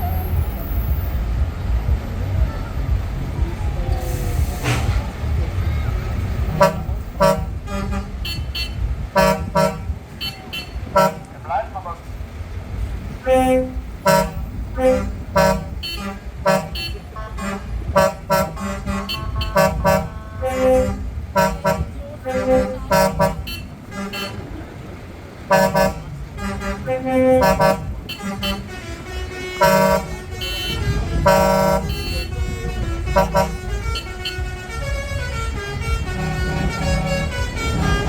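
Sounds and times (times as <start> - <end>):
truck engines rumbling: 0.0 - 38.0
truck horns honking: 0.0 - 38.0.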